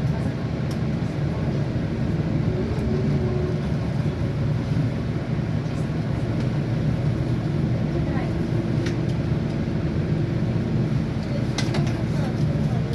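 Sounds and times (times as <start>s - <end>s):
diesel bus engine drone: 0.0s - 12.9s
road noise: 0.5s - 12.9s.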